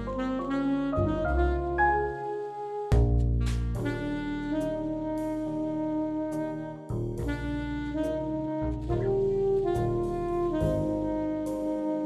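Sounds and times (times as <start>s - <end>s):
instrumental music with sustained notes: 0.0s - 12.0s.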